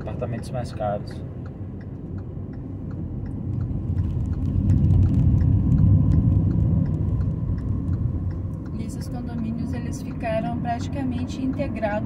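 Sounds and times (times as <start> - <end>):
car interior road noise: 0.0 - 12.0
faint light ticks: 0.0 - 12.0.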